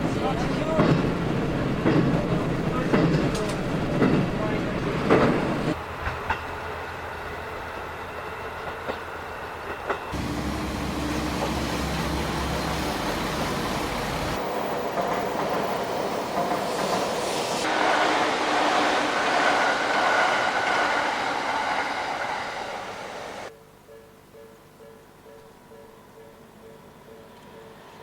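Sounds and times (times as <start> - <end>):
electric train running on rails: 0.0 - 28.0.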